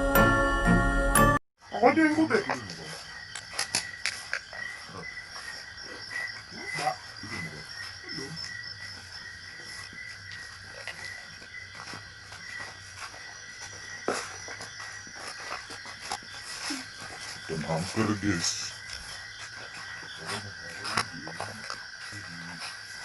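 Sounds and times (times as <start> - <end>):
insects chirring: 1.6 - 23.0.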